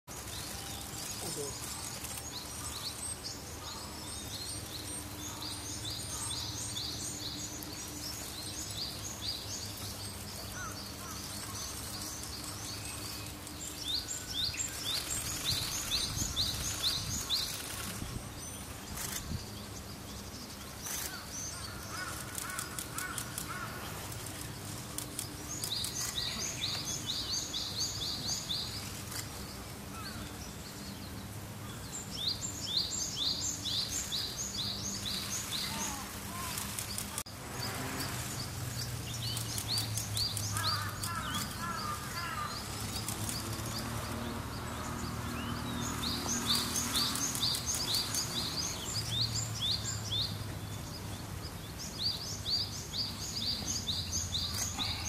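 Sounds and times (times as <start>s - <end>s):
outdoor background noise: 0.0s - 55.0s
songbird singing: 0.0s - 55.0s.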